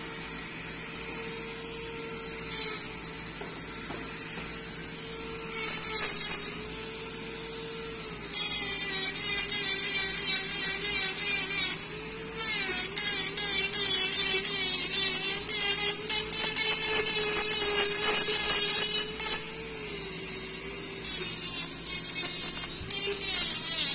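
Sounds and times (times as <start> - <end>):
dental micromotor whine grinding acrylic: 0.0 - 23.9.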